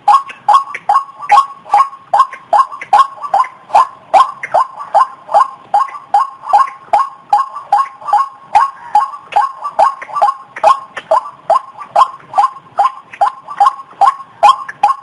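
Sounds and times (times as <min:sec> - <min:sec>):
bird croaking calls: 0:00.0 - 0:15.0.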